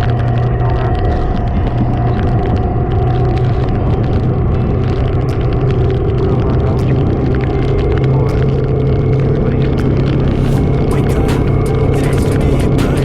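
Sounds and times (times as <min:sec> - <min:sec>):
wind noise: 0:00.0 - 0:13.0.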